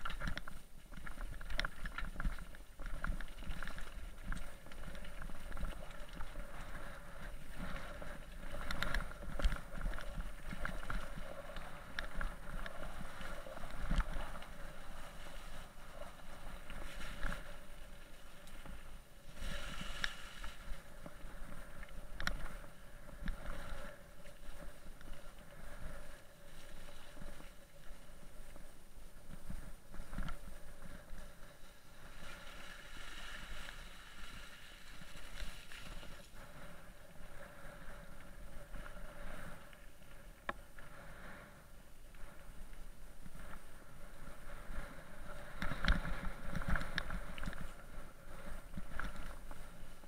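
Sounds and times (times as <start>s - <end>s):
bike tyres on mud and gravel: 0.0s - 50.0s.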